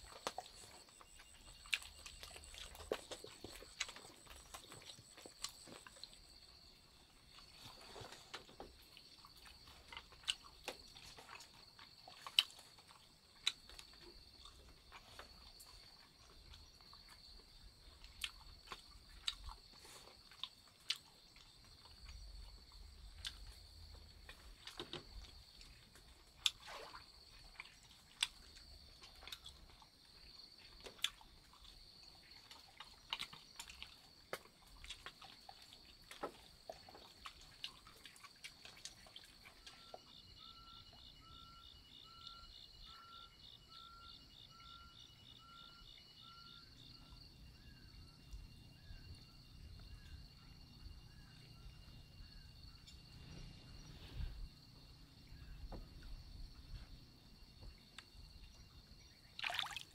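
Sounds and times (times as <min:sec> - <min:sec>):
forest insects droning: 0:00.0 - 0:59.9.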